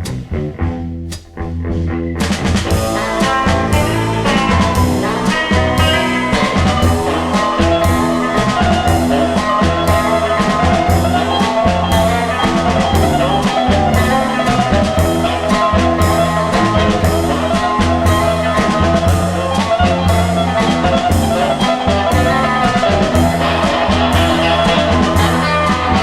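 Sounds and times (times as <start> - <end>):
drum kit beat: 0.0 - 26.0
sustained guitar: 0.0 - 26.0.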